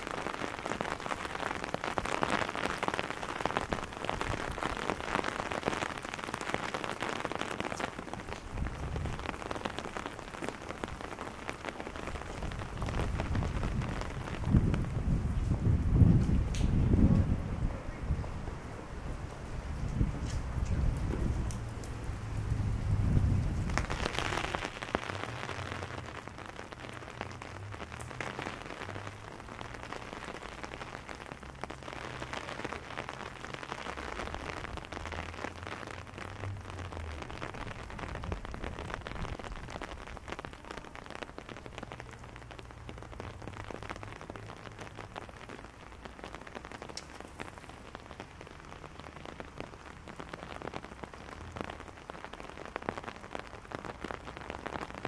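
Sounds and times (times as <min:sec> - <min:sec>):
rain on cobblestones: 0:00.0 - 0:55.0
raindrops ticking on umbrella: 0:00.0 - 0:55.0.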